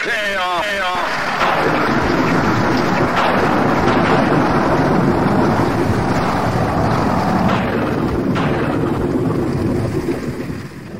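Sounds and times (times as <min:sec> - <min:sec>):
heavy rain: 0:00.0 - 0:10.9
wind buffeting microphone: 0:01.0 - 0:10.9.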